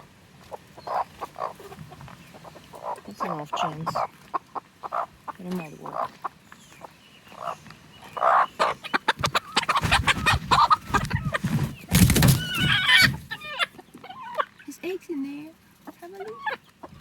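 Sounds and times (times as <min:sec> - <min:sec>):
hen clucking and squawking: 0:00.4 - 0:14.7, 0:15.8 - 0:17.0.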